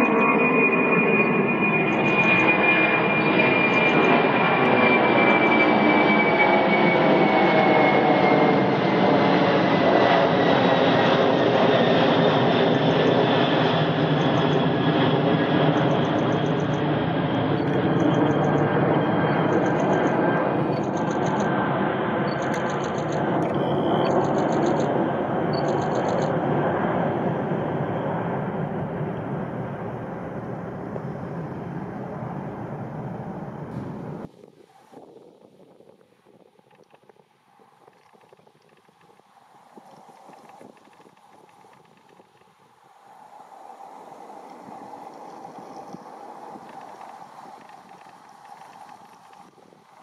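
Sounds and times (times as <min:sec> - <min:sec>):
jet aircraft passing overhead: 0:00.0 - 0:50.0.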